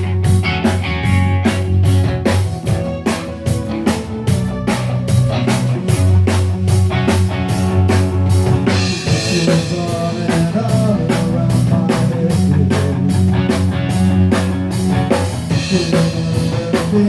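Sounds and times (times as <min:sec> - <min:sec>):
drum kit steady beat: 0:00.0 - 0:17.0
rock band playing: 0:00.0 - 0:17.0.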